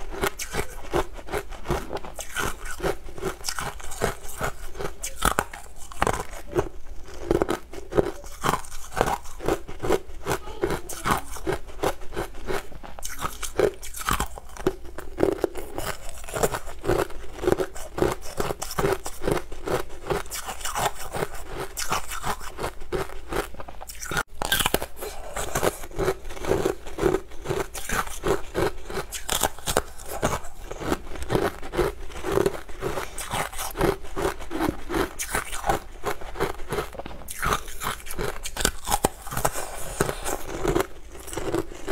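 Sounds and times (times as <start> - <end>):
crunching and chewing ice: 0.0 - 41.9.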